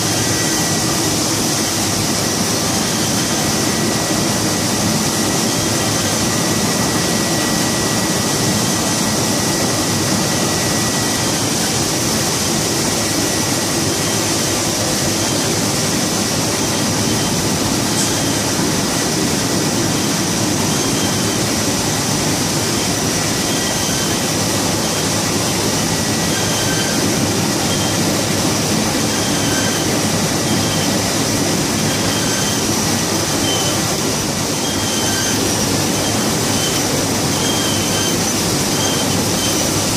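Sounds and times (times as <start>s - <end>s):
high whine: 0.0s - 39.9s
printing press running: 0.0s - 39.9s.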